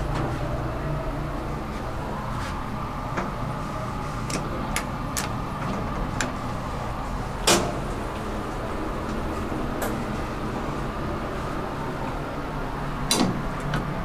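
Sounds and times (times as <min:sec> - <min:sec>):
elevator car hum: 0:00.0 - 0:14.0
elevator doors sliding shut: 0:00.0 - 0:14.0.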